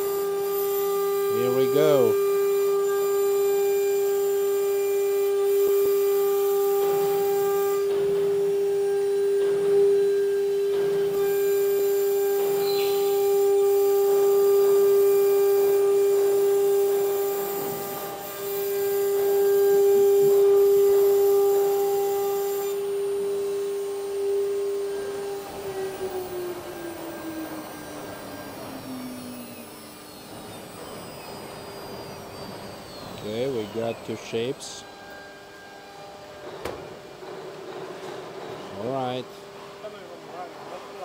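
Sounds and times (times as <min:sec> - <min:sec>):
router spindle whine: 0:00.0 - 0:41.0.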